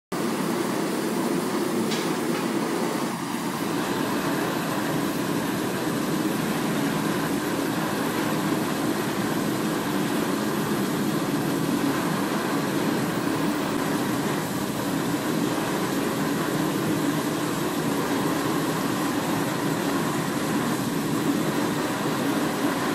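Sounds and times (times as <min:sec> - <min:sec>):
forge fire air blast rushing: 0:00.2 - 0:22.9.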